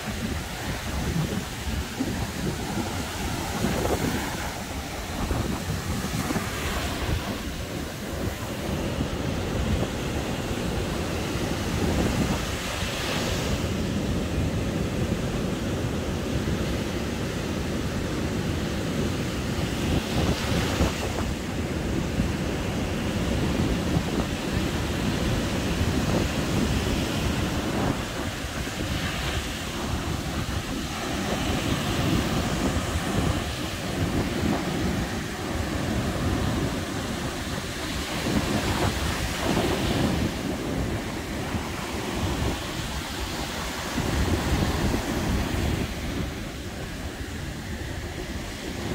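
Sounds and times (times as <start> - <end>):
surf washing up a beach: 0.0 - 48.9
wind buffeting microphone: 0.0 - 48.9.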